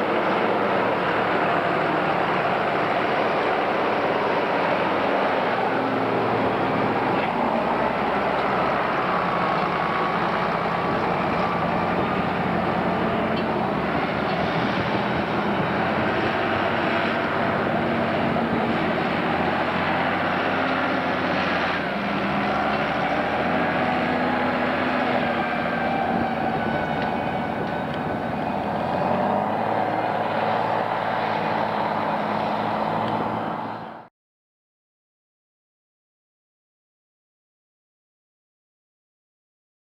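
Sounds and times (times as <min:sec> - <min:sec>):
tractor diesel engines under load: 0:00.0 - 0:34.1.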